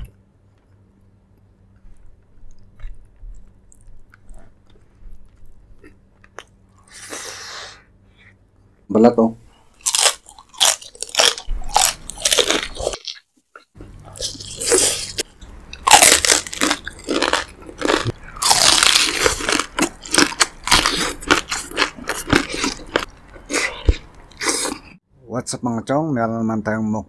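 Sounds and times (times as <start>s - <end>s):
person crunching food: 0.6s - 7.2s, 9.7s - 25.0s.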